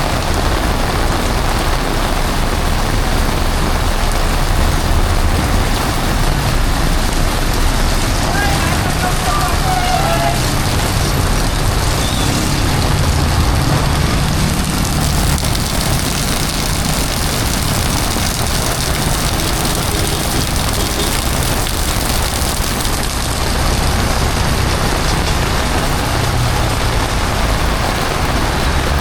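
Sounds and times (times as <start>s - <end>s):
heavy rain hissing: 0.0s - 29.0s
traffic engines rumbling: 0.0s - 29.0s.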